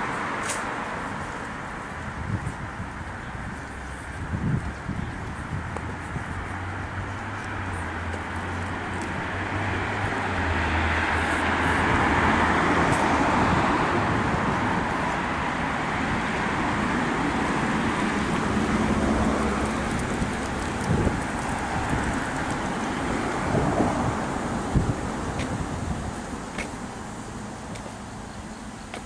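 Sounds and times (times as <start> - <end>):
vehicle passing: 3.0 - 28.3.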